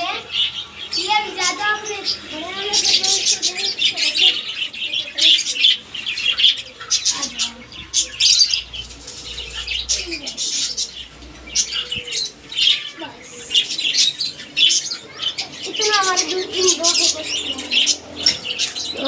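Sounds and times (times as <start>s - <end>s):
birds chirping and chattering: 0.0s - 19.0s.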